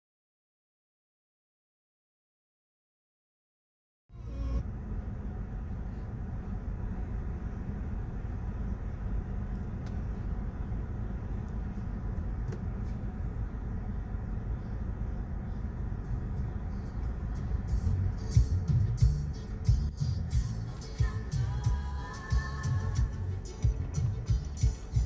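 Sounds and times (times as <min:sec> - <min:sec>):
car cabin rumble: 0:04.3 - 0:25.0.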